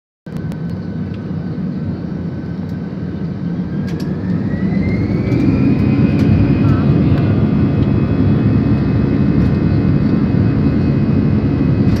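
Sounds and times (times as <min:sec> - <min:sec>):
jet engines roaring in cabin: 0:00.3 - 0:12.0.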